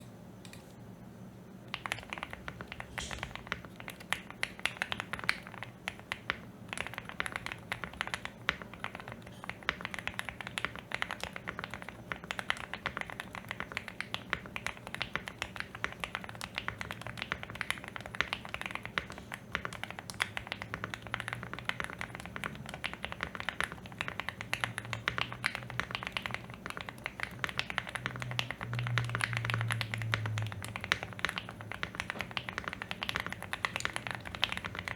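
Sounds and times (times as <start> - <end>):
fast typing on mechanical keyboard: 1.7 - 34.9.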